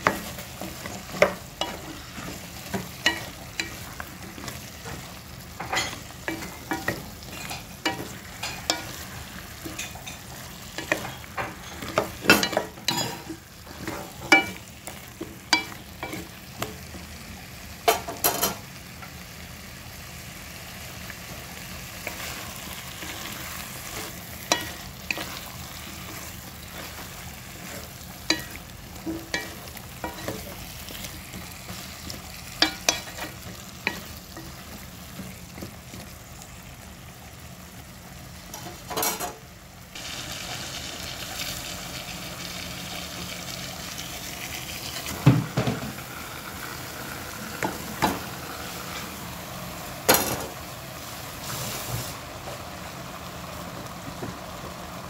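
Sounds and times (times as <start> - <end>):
vegetables sizzling in a pot: 0.0 - 55.0.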